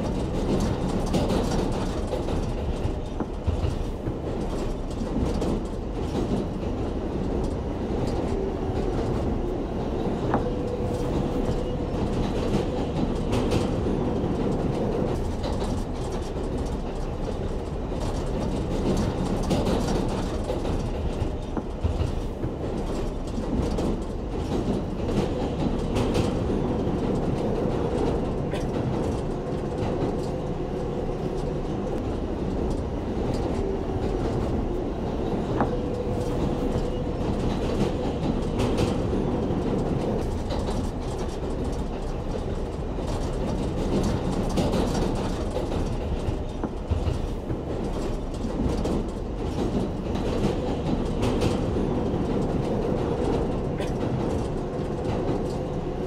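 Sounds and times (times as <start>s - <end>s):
subway train rumble: 0.0s - 56.0s
wheels clicking over rail joints: 0.0s - 56.0s.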